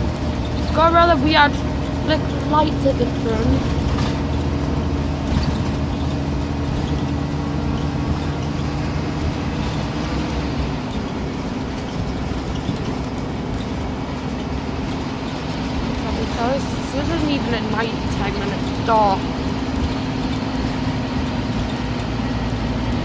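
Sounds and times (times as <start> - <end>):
diesel engine drone: 0.0 - 23.0
tyre and road noise: 0.0 - 23.0.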